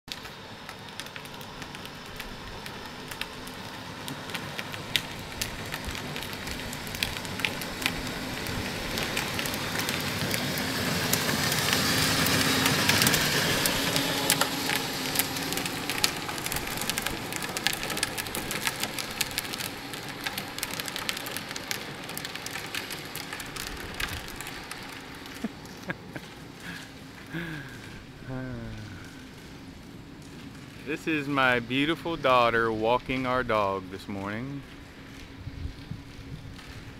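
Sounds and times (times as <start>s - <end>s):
plastic wheels rolling on asphalt: 0.0s - 36.9s.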